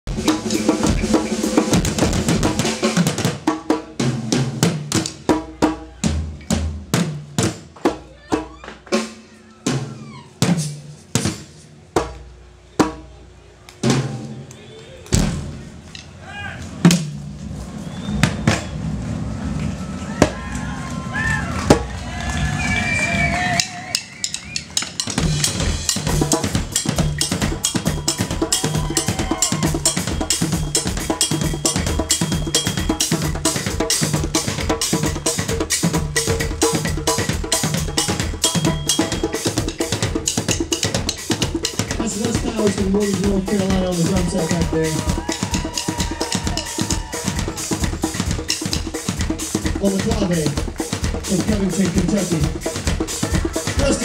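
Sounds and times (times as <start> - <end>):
drum beaten with sticks: 0.0 - 13.2, 15.1 - 22.0, 23.2 - 54.0.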